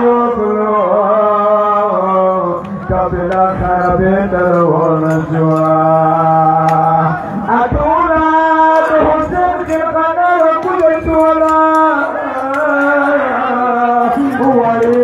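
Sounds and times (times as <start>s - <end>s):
man chanting a lament: 0.0s - 15.0s.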